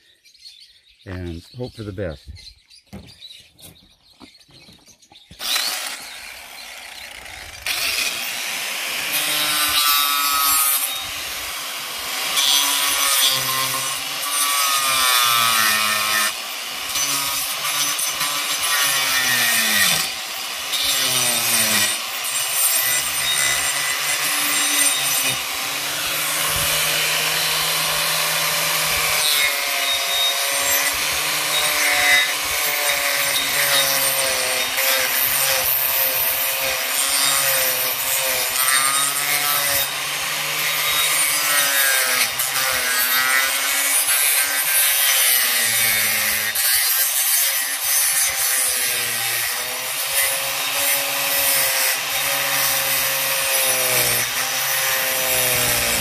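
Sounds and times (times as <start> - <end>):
angle grinder cutting wood: 5.2 - 56.0.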